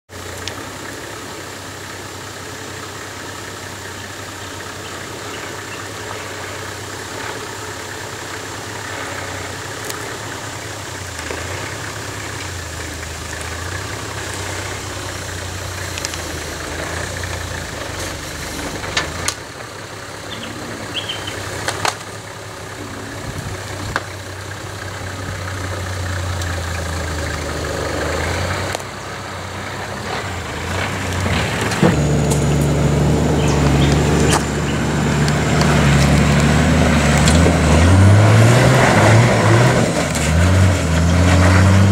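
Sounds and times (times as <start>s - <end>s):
engine running at low revs: 0.0s - 41.9s.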